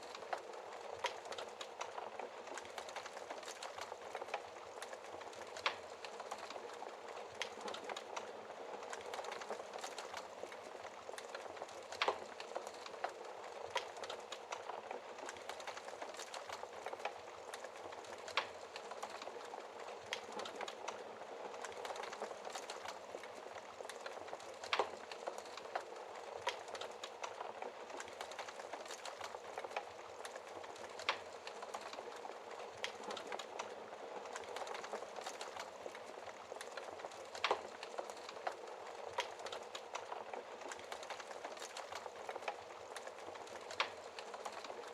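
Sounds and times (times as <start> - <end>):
fire crackling: 0.0 - 44.9
fire popping: 0.0 - 44.9.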